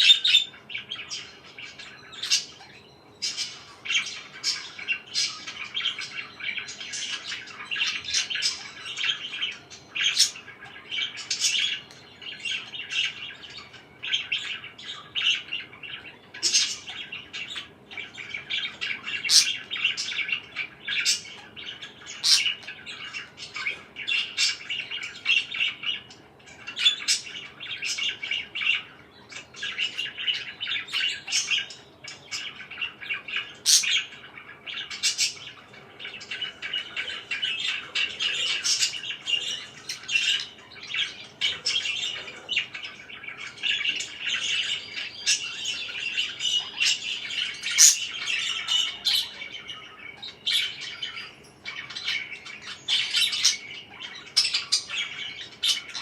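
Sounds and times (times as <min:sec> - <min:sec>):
parakeets chattering and chirping: 0:00.0 - 0:56.0.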